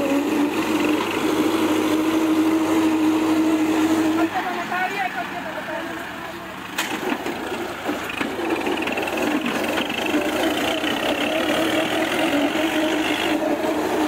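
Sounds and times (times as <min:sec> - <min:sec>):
tractor diesel engines under load: 0:00.0 - 0:14.0.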